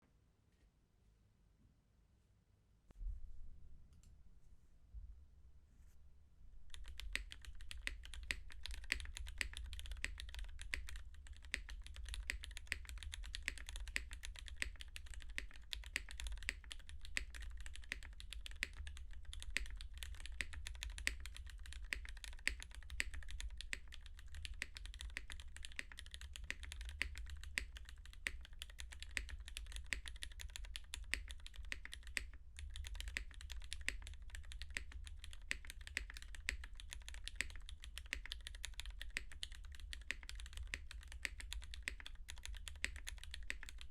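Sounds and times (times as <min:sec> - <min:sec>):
mechanical keyboard keystroke clacks: 0:06.7 - 0:43.9.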